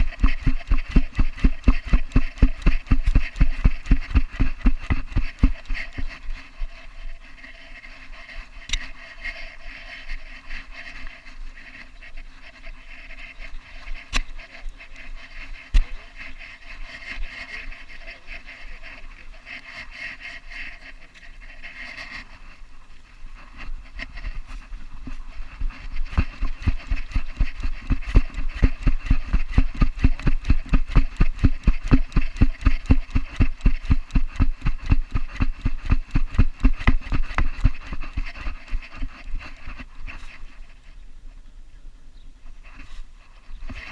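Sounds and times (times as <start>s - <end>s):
dog panting: 0.0s - 40.9s.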